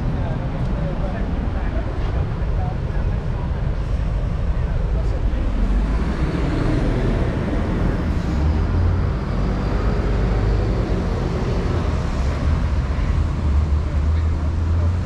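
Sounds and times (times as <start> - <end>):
traffic: 0.0 - 15.0.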